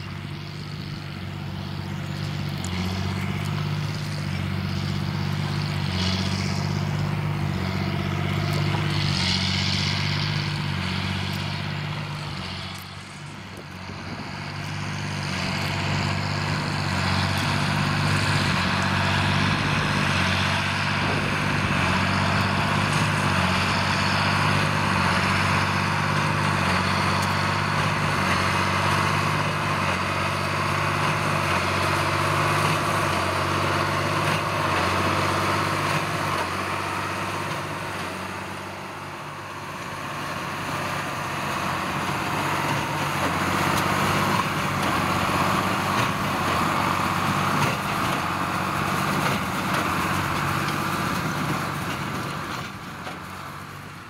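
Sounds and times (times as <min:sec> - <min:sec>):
baler machinery working: 0:00.0 - 0:54.0
tractor diesel engine under load: 0:00.0 - 0:54.0.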